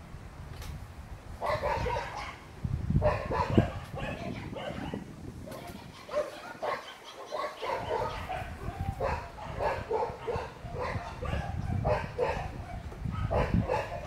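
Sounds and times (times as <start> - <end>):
dogs barking: 1.4 - 2.4, 3.0 - 14.0.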